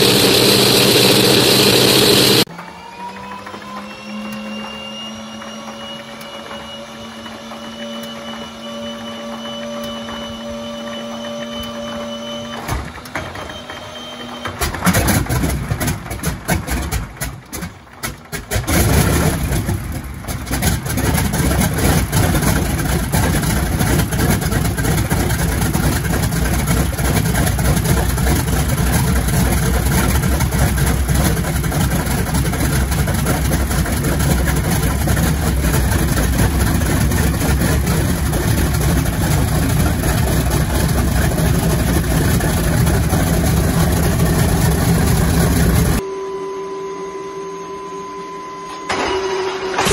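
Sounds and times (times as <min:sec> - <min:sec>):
radial aircraft engine starting up: 0:00.0 - 0:49.9.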